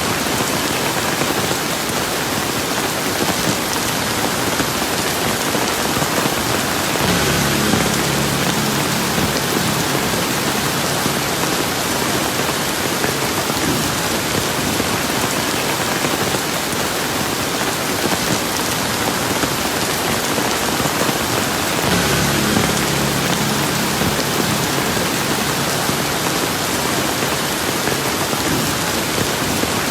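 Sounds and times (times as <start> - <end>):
heavy rain pattering: 0.0 - 29.9.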